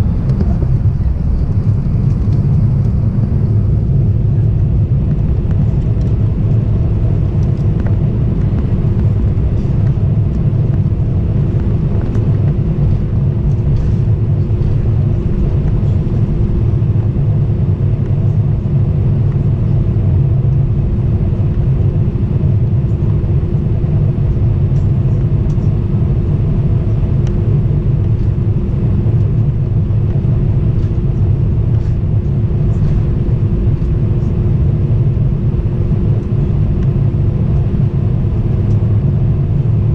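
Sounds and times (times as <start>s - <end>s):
low rumble with hum: 0.0s - 39.9s.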